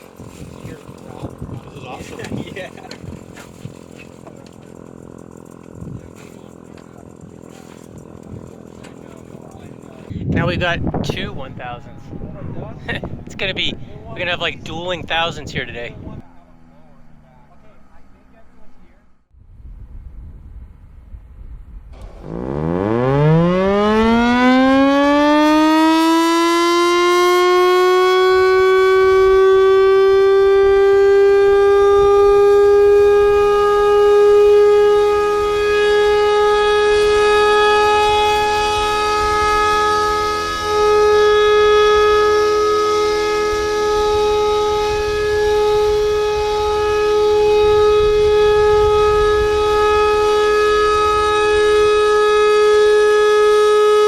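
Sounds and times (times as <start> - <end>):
air raid siren wailing: 0.0 - 13.2, 22.0 - 54.0.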